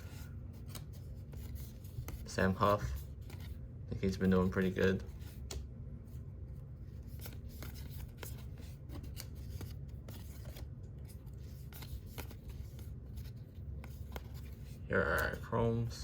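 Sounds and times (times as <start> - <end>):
steady low hum: 0.0 - 16.0
cards flipping with crisp clicks: 0.6 - 3.6, 4.4 - 5.8, 6.9 - 15.4.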